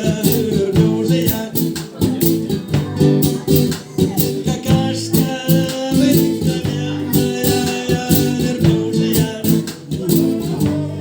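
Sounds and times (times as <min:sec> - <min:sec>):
guitar strummed: 0:00.0 - 0:11.0
man singing: 0:00.0 - 0:11.0.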